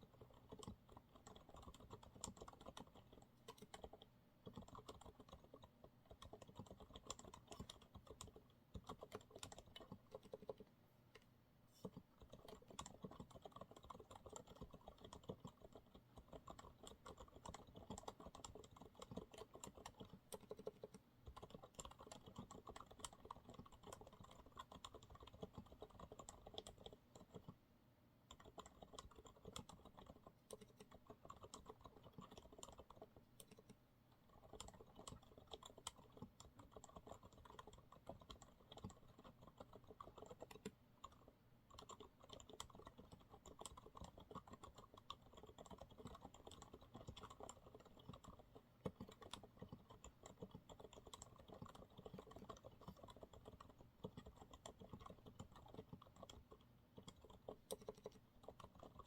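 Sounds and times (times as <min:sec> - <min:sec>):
soft mechanical keyboard typing: 0:00.0 - 0:27.6, 0:28.2 - 0:59.0.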